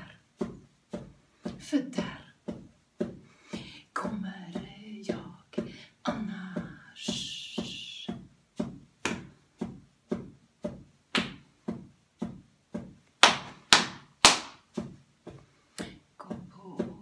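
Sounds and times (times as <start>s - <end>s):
drum beat: 0.0s - 17.0s.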